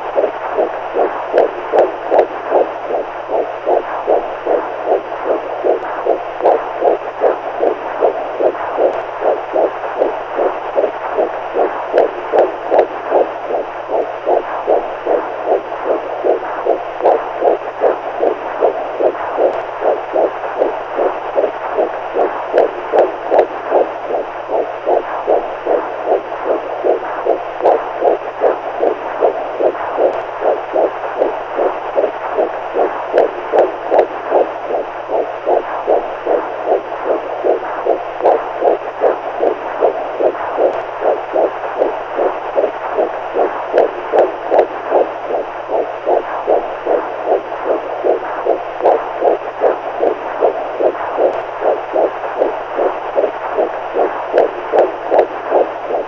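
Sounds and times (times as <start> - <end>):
faint low hum: 0.0 - 56.0
soft heartbeat: 0.0 - 56.0.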